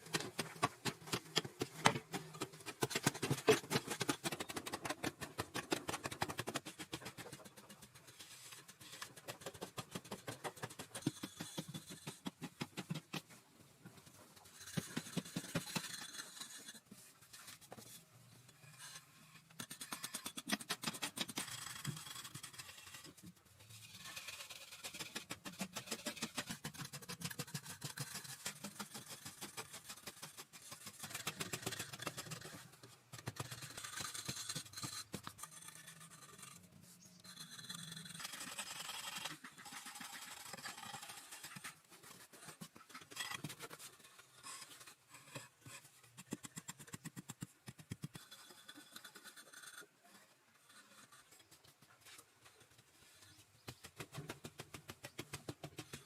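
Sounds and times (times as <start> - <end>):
rapid scratching and scraping: 0.0 - 56.0.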